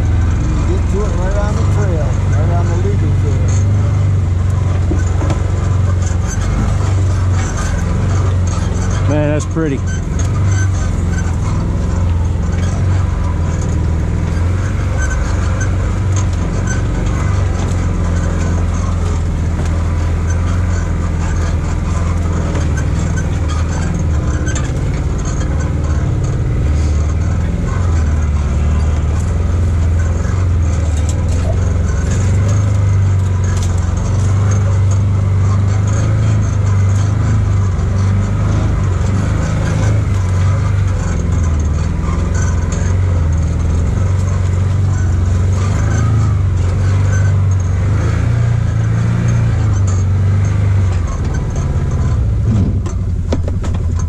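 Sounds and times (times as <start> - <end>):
utility vehicle engine droning: 0.0 - 54.0
vehicle clicks and rattles: 0.0 - 54.0.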